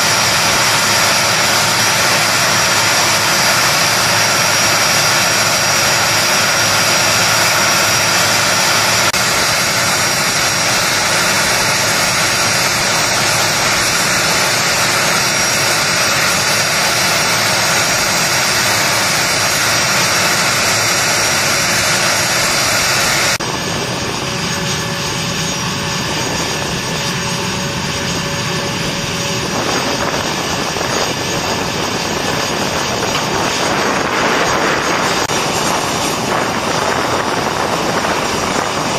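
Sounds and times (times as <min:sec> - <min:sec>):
jet turbine rush and whine: 0:00.0 - 0:38.9.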